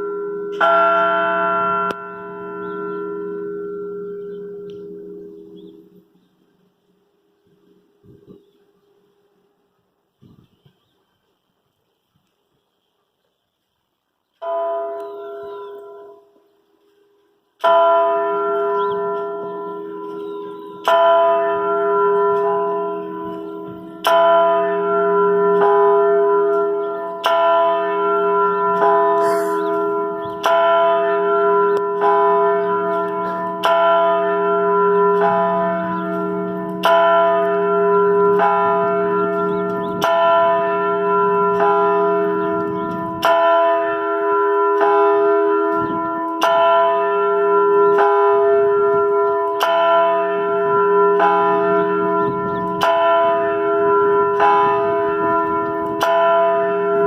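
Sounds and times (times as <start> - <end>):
church bell tolling: 0.0 - 6.2, 14.4 - 57.0.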